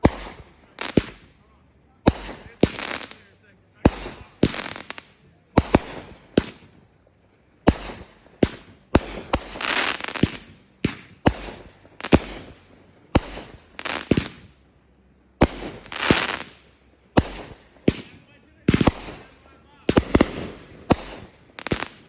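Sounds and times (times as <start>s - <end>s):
fireworks banging: 0.0s - 14.8s, 15.4s - 22.0s
fireworks crackling: 0.0s - 22.0s.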